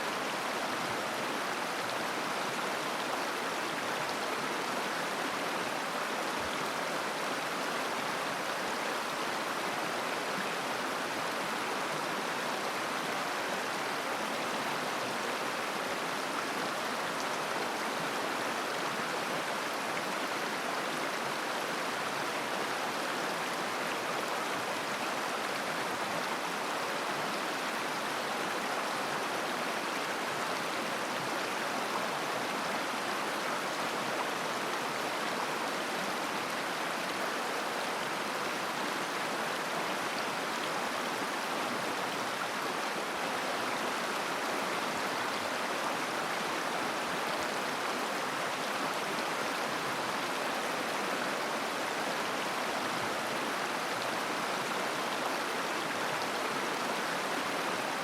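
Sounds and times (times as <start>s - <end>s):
river babbling: 0.0s - 58.0s.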